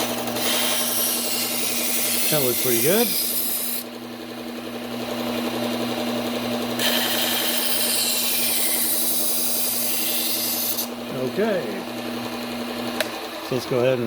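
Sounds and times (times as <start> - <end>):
belt sander motor hum: 0.0 - 14.0.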